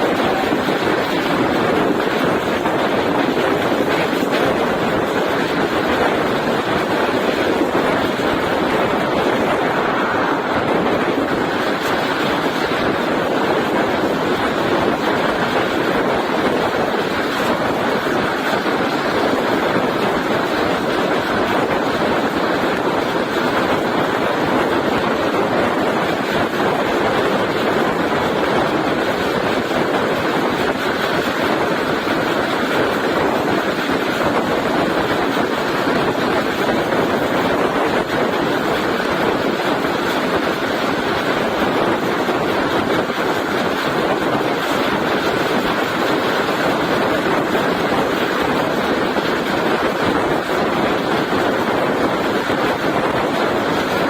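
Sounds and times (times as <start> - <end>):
moving train running noise: 0.0 - 54.0
wind noise: 0.0 - 54.0.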